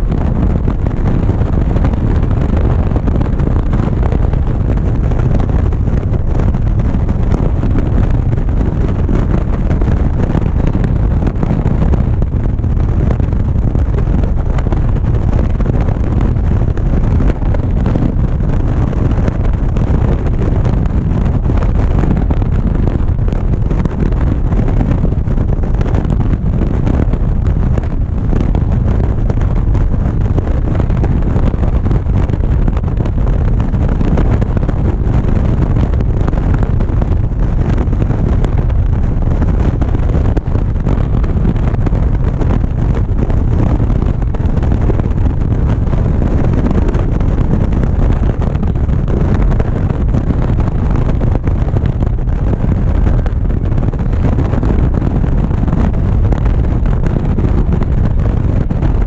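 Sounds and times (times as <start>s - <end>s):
motorcycle engine and road rumble: 0.0s - 59.0s
wind buffeting microphone: 0.0s - 59.0s.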